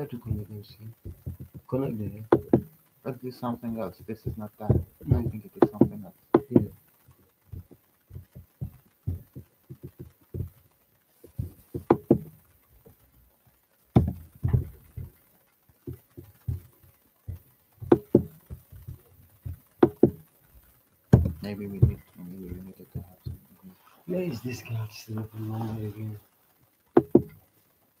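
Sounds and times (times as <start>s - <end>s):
computer keys tapping: 0.0s - 13.1s, 13.8s - 26.2s, 26.9s - 27.6s.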